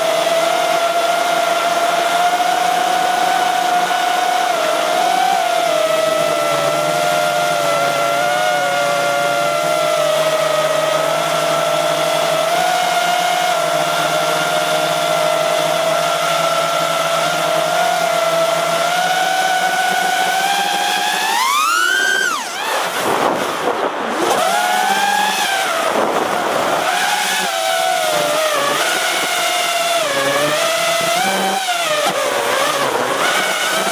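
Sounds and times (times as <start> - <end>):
drone propellers whining: 0.0 - 33.9.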